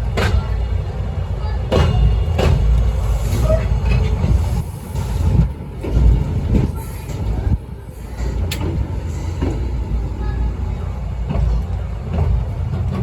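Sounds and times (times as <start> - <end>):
train coach rumbling on track: 0.0 - 13.0.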